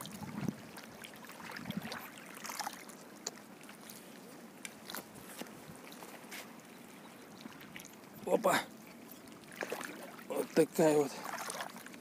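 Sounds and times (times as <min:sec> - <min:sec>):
faint splashes: 0:00.0 - 0:12.0
small waves lapping: 0:00.0 - 0:12.0.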